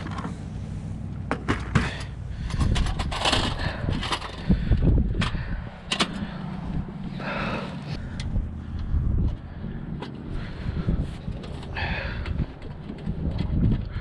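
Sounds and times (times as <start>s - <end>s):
gusty wind on microphone: 2.2s - 14.0s.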